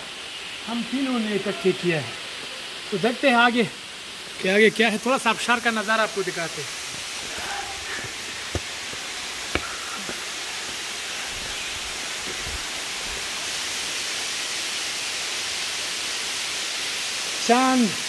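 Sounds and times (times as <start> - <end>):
waterfall hiss: 0.0 - 18.0.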